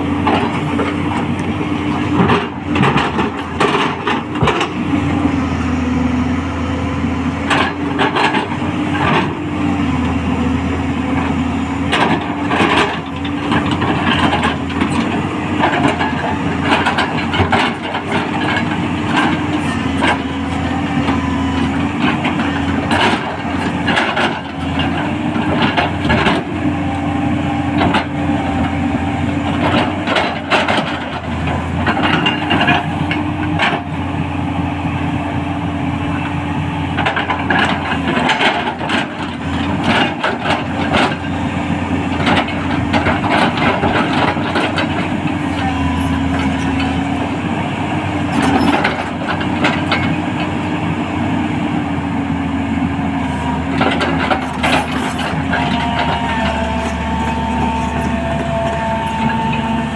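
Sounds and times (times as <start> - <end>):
excavator engine humming: 0.0 - 59.9.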